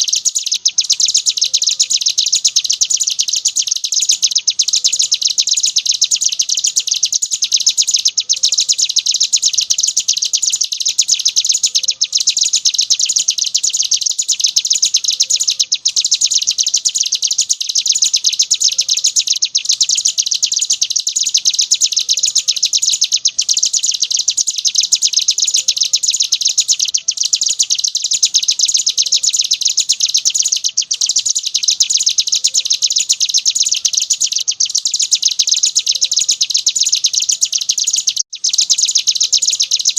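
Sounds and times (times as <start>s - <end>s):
bird high-pitched chattering song: 0.0s - 39.9s.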